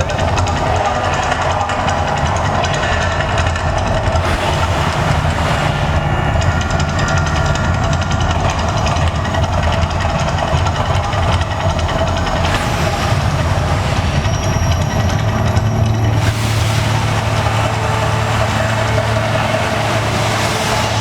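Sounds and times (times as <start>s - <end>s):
loud deep rumble: 0.0s - 21.0s.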